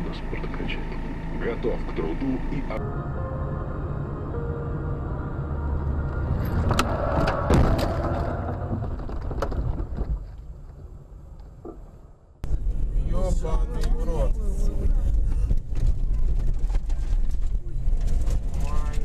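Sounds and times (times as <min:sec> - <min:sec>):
vehicle road rumble: 0:00.0 - 0:19.0.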